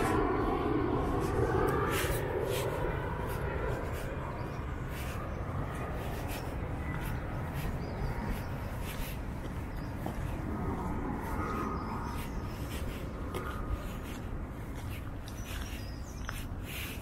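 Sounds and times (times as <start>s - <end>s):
low distant rumble: 0.0s - 16.0s
footsteps crunching on gritty path: 0.0s - 17.0s.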